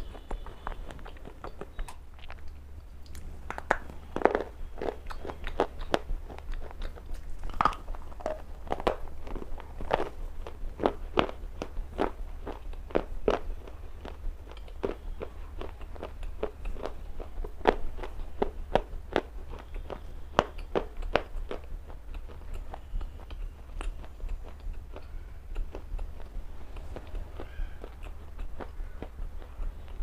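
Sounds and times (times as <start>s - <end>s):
person chewing stone crunching: 0.0s - 30.0s.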